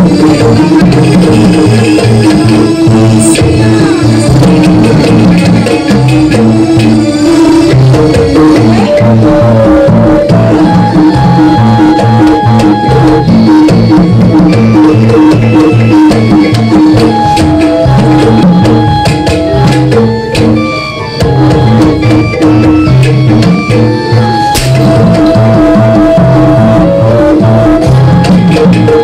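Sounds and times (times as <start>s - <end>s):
gamelan melody of held notes: 0.0s - 29.0s
hand drums beating: 0.0s - 29.0s.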